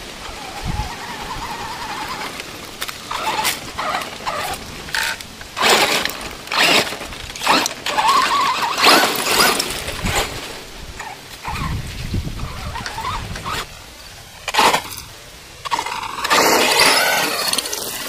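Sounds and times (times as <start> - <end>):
electric motor whining: 0.3 - 10.4, 11.0 - 18.0
tyres crunching over stones: 0.9 - 18.0.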